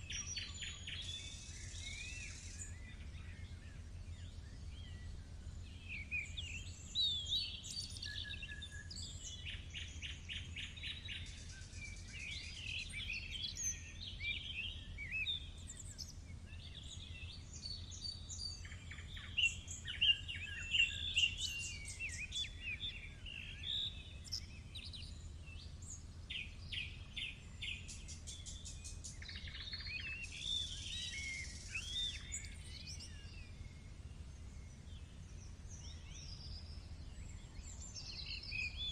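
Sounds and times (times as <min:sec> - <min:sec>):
low steady hum: 0:00.0 - 0:38.9
songbirds singing and chirping: 0:00.0 - 0:38.9.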